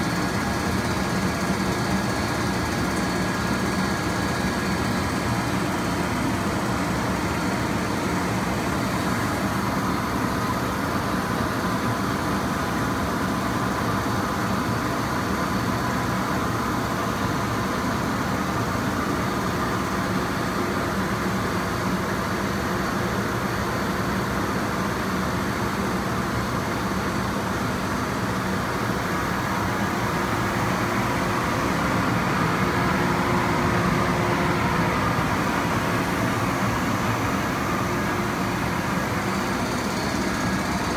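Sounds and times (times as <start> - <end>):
cnc router whir and hum: 0.0 - 40.9.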